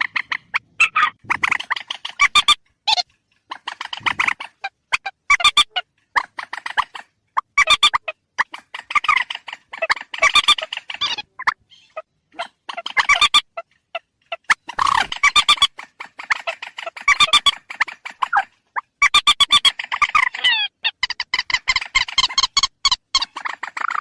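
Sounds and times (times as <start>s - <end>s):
bird calls from lure: 0.0s - 24.0s.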